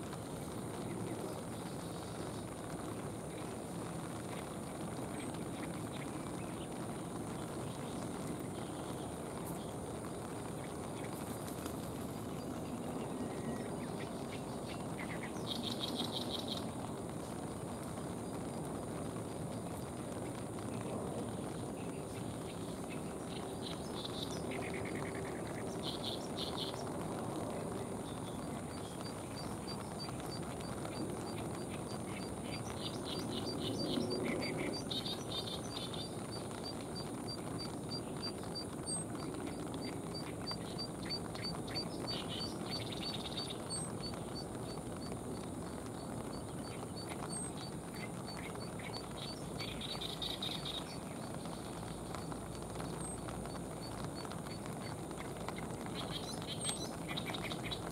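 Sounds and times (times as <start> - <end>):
small birds chirping: 0.0 - 57.9
steady background hiss: 0.0 - 57.9.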